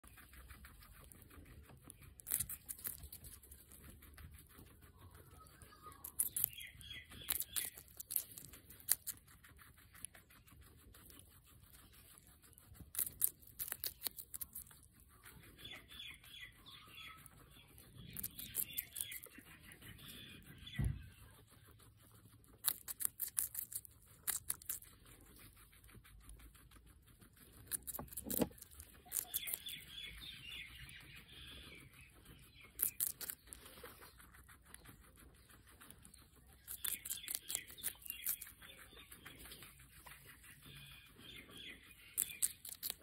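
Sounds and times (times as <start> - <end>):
guinea pig crunching pepper: 0.0 - 43.0.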